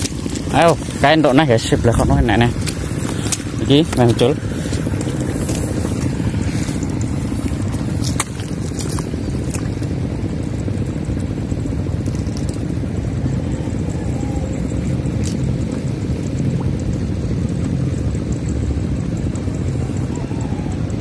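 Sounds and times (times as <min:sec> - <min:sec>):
steady low rumbling: 0:00.0 - 0:21.0.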